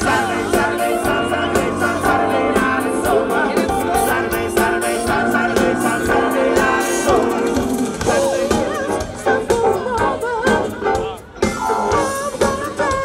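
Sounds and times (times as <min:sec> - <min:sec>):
live band music: 0:00.0 - 0:13.0
person singing: 0:00.0 - 0:13.0.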